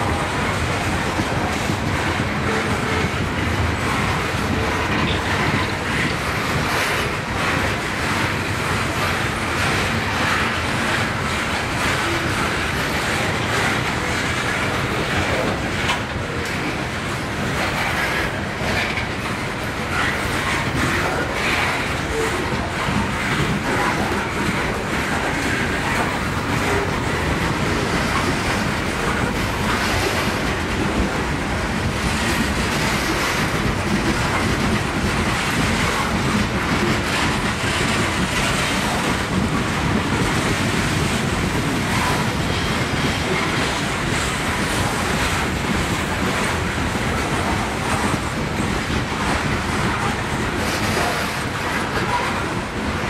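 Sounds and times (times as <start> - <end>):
train wheels clattering on rails: 0.0 - 53.0.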